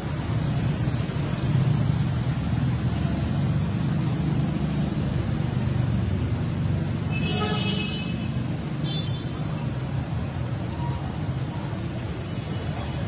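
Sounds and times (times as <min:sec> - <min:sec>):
low rumble of street traffic: 0:00.0 - 0:13.0
motorcycles riding through water: 0:00.0 - 0:13.0.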